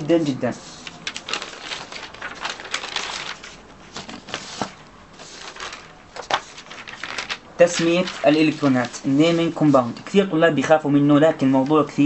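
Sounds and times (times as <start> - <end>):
paper rustling and crinkling: 0.1 - 10.3.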